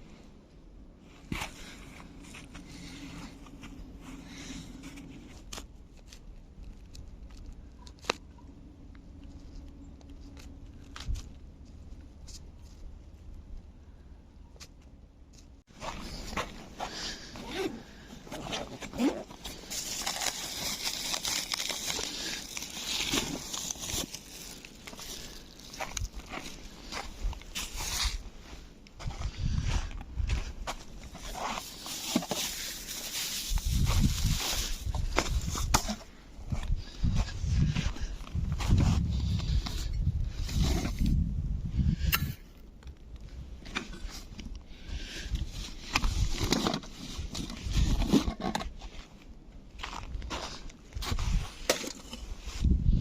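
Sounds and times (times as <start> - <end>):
crinkling and rustling: 1.0 - 13.7, 14.6 - 41.2, 42.6 - 52.7.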